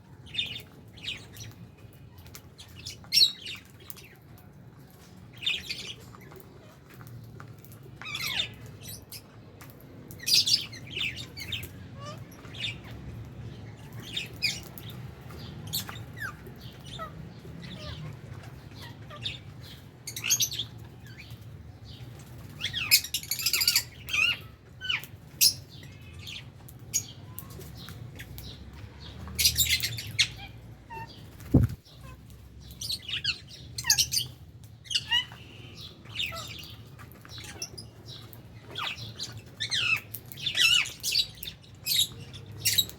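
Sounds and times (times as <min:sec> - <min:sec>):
birds chirping and squawking: 0:00.1 - 0:42.9.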